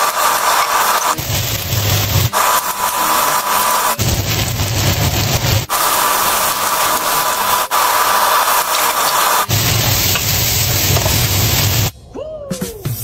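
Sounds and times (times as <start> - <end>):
food sizzling in hot oil in a wok: 0.0 - 11.9.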